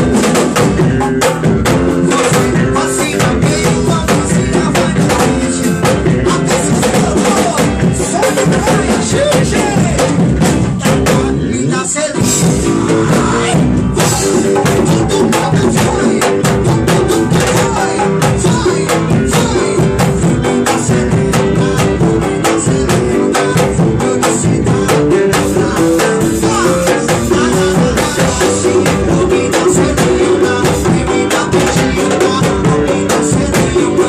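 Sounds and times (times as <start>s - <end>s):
band playing a song: 0.0s - 34.0s
drum kit beat: 0.0s - 34.0s
guitar: 0.0s - 34.0s.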